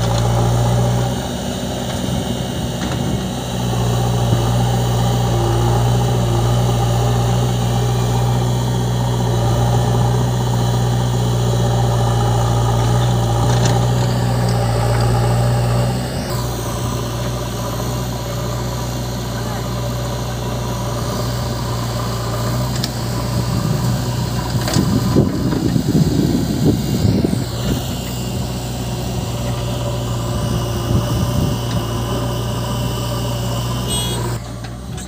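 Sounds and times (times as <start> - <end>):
diesel engine running steadily: 0.0 - 35.0.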